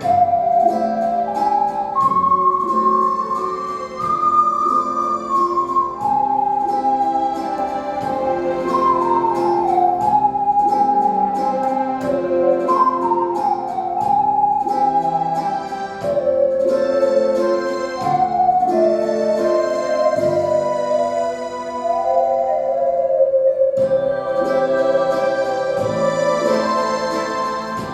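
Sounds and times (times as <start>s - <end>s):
keyboard accompaniment with beat: 0.0s - 27.9s
ocarina ensemble melody: 0.0s - 27.9s.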